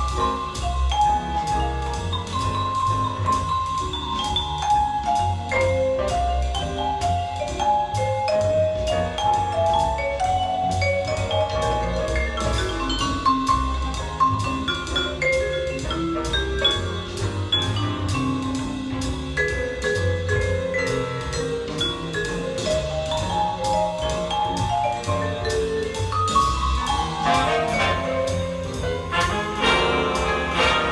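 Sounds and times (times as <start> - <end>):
jazz track on loudspeaker: 0.0 - 30.9.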